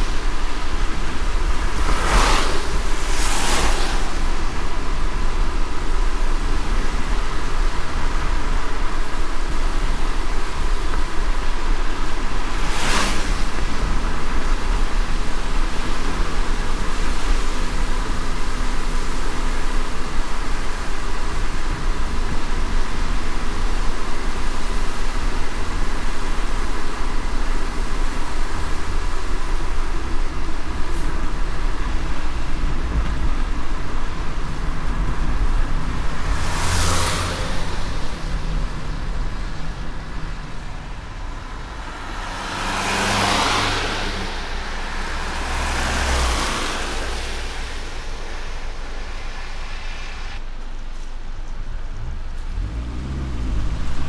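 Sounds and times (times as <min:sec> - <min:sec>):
vehicle swishing past: 0:00.0 - 0:08.2, 0:11.8 - 0:21.3, 0:24.8 - 0:50.6, 0:51.8 - 0:54.0
low road rumble: 0:00.0 - 0:54.0
tyres hissing on wet road: 0:00.0 - 0:54.0.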